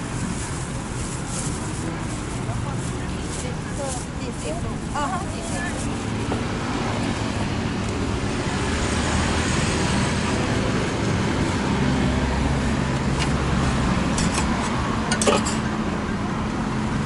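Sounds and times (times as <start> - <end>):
street traffic: 0.0 - 17.0
vehicle engine running nearby: 0.0 - 17.0.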